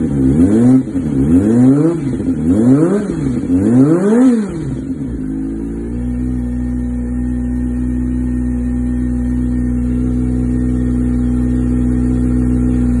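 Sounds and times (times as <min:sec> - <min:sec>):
motorcycle engine at steady revs: 0:00.0 - 0:13.0.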